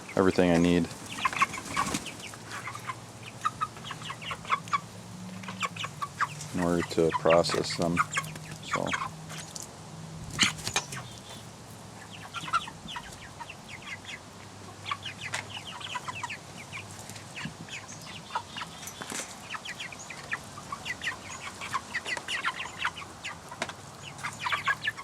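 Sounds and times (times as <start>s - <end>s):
chickens clucking and peeping: 0.0s - 25.0s.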